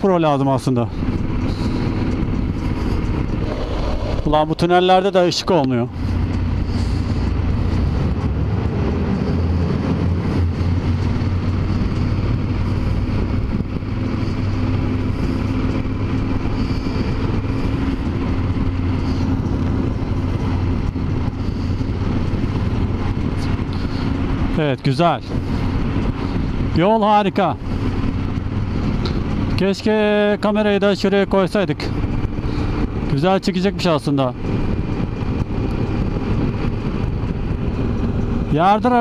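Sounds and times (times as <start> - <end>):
motorcycle engine cruising: 0.0 - 39.0
wind noise: 0.0 - 39.0.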